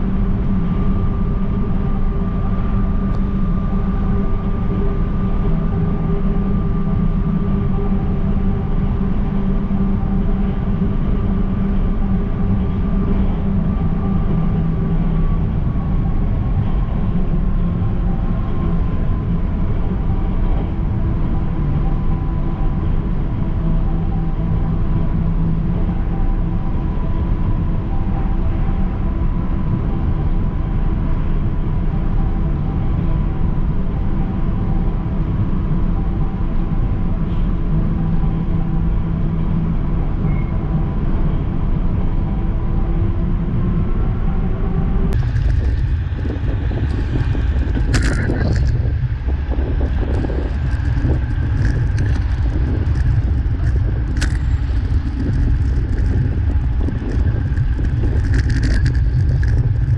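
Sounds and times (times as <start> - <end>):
bicycle road rumble: 0.0 - 59.9
light-rail train hum and whine: 0.0 - 59.9
wind rushing over microphone: 0.0 - 59.9.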